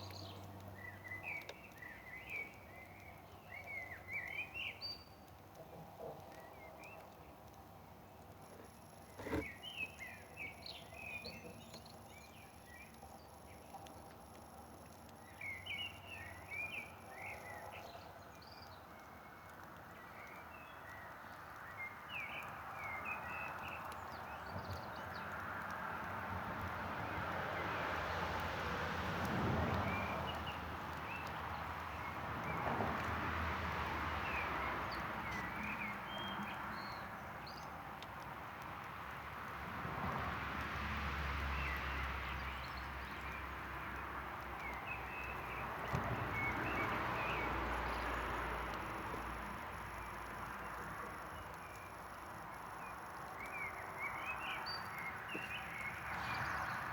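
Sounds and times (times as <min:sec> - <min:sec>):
small birds chirping: 0:00.0 - 0:25.6, 0:29.8 - 0:33.1, 0:34.2 - 0:39.1, 0:41.5 - 0:56.9.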